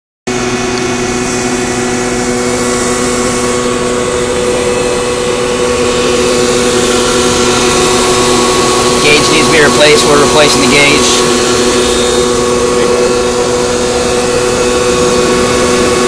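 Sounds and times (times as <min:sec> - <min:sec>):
constant whirring: 0:00.3 - 0:16.0
machinery motor humming: 0:00.3 - 0:16.0.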